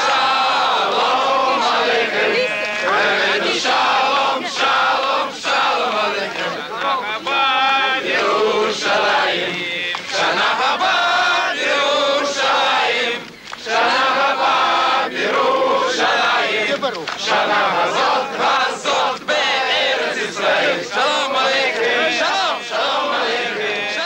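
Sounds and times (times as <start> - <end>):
crowd singing together: 0.0 - 24.0.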